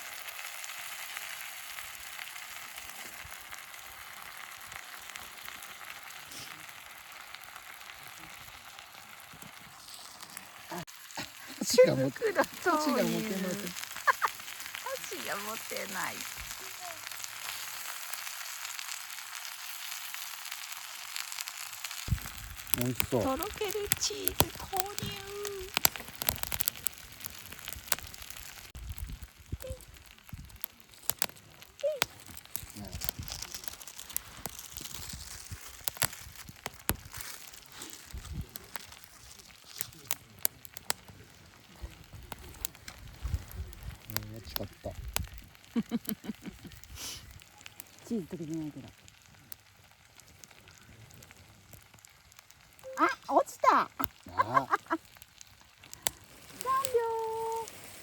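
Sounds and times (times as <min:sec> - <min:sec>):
fire crackling: 0:00.0 - 0:58.0
noodles sizzling in a pan: 0:00.0 - 0:58.0.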